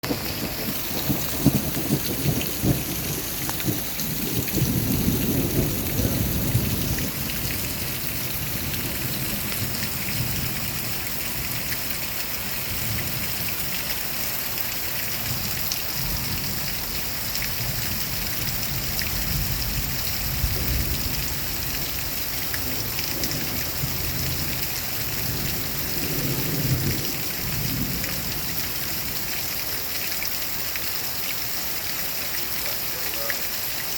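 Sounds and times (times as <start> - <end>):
thunder rumbling: 0.0 - 13.7, 15.2 - 29.3
rain falling: 0.0 - 33.9.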